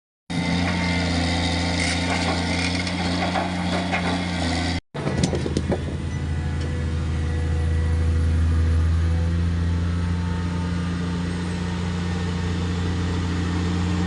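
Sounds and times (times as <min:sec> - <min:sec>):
excavator diesel engine running: 0:00.3 - 0:14.0.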